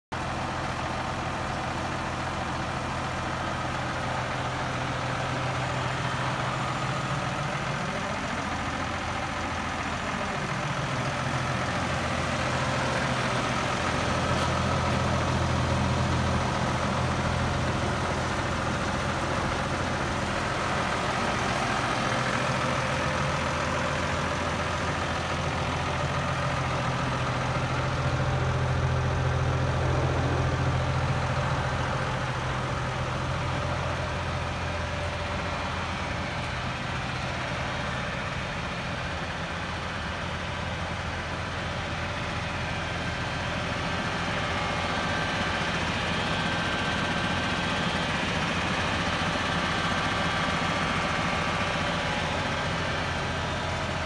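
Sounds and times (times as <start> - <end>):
tractor diesel engine idling: 0.1 - 54.0.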